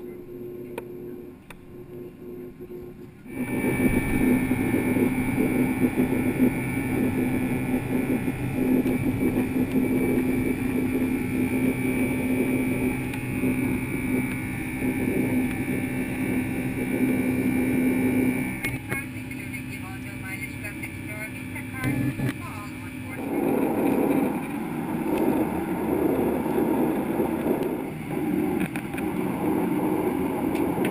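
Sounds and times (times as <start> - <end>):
high engine whine: 0.0 - 30.9
jet engine rumble in cabin: 0.0 - 30.9
low engine hum: 0.0 - 30.9.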